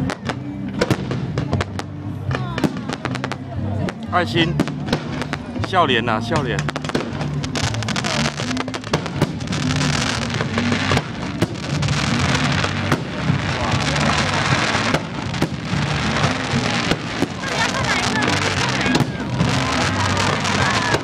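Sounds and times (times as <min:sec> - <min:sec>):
fireworks crackling and popping: 0:00.0 - 0:21.0
loud fireworks bangs: 0:00.0 - 0:21.0
music from sound system: 0:00.0 - 0:21.0.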